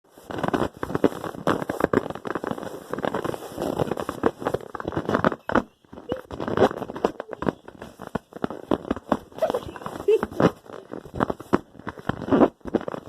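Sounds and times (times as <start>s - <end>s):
sputtering fart sounds: 0.2s - 13.0s.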